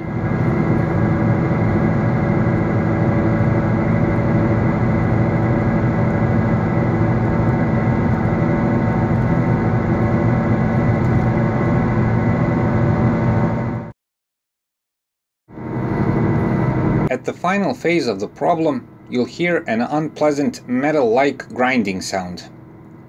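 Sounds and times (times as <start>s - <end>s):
engine and tyre noise: 0.0s - 13.9s, 15.5s - 23.0s.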